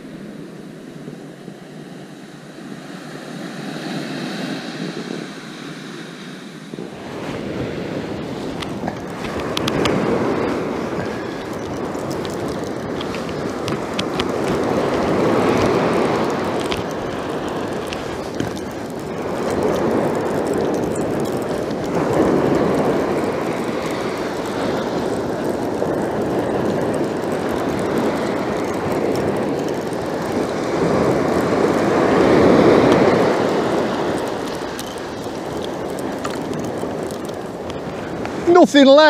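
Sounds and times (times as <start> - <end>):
surf breaking on sand beach: 0.0 - 39.0.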